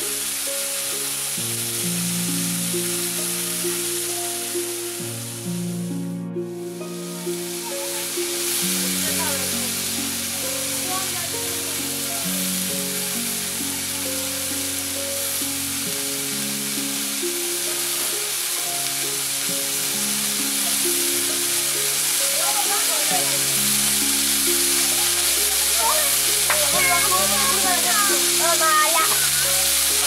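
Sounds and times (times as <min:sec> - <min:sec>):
food sizzling in oil: 0:00.0 - 0:05.5, 0:06.7 - 0:30.0
background music: 0:00.0 - 0:30.0.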